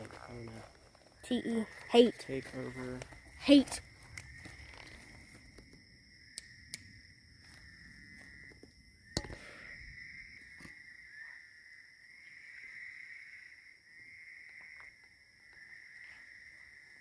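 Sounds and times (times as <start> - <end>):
night insects chirring: 0.0 - 17.0.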